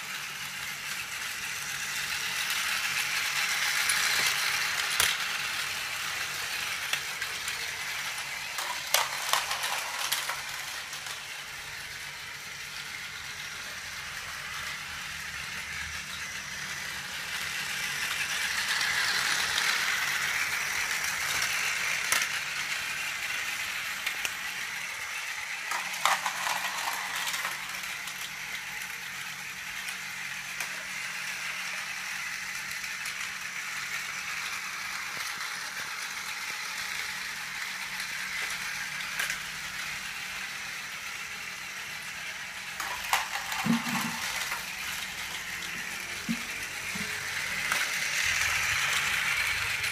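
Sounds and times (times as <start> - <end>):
toy train motor whirring: 0.0 - 49.9
toy train wheels rattling: 0.0 - 49.9.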